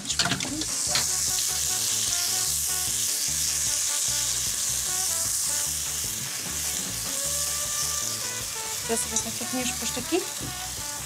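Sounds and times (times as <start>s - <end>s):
grain sizzling in a hot pot: 0.0s - 11.0s.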